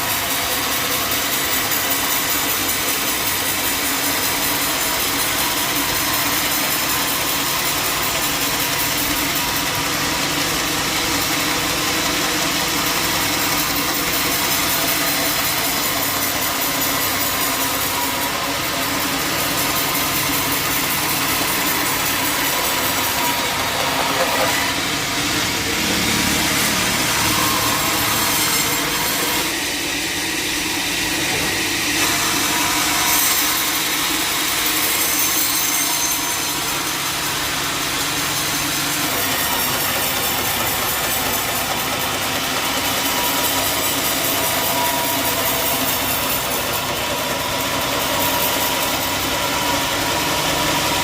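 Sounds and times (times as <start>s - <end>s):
saw blade rasping through log: 0.0s - 51.0s
sawmill engine running: 0.0s - 51.0s.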